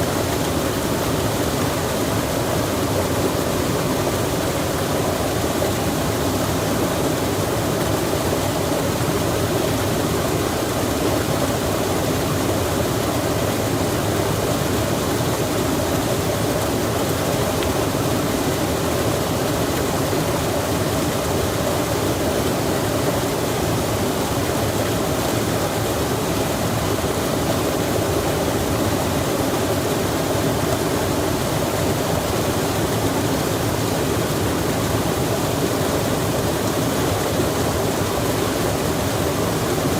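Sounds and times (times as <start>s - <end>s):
rain falling on a stream: 0.0s - 39.9s.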